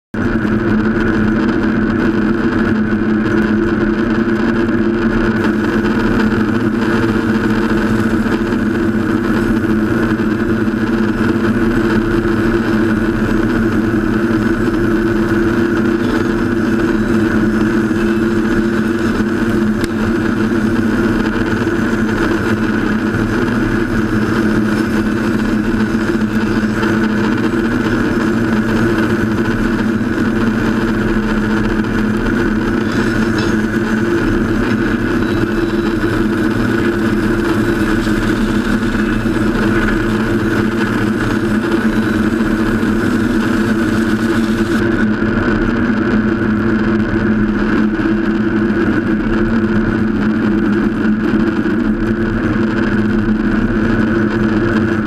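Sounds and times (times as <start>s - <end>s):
band sawmill drone: 0.2s - 55.0s.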